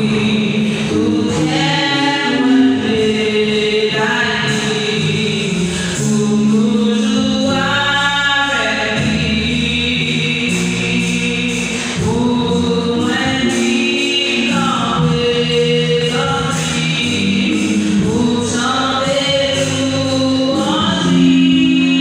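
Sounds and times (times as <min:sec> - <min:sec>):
gospel choir singing: 0:00.0 - 0:22.0.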